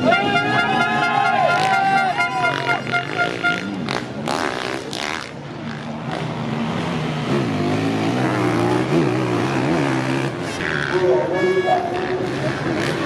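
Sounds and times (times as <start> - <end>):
motorcycle engine revving hard: 1.5 - 11.1, 11.8 - 13.0.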